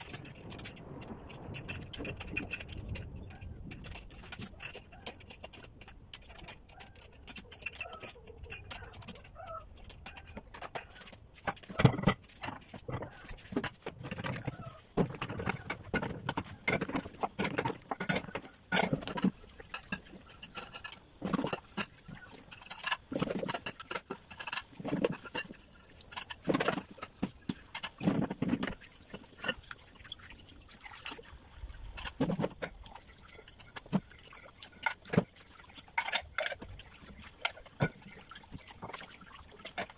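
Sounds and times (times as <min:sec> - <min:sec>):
dishes clattering in a sink: 0:00.0 - 0:29.7, 0:31.9 - 0:39.9
tap water running: 0:00.0 - 0:39.9.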